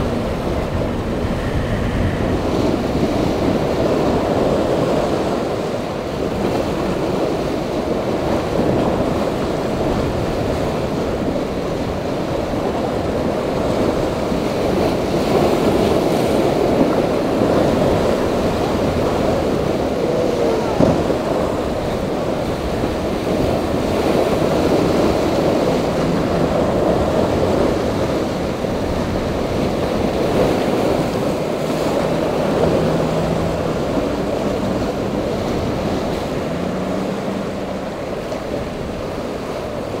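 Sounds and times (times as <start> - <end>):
outboard motor: 0.0 - 40.0
surf and breaking waves: 0.0 - 40.0
wind buffeting microphone: 0.0 - 40.0.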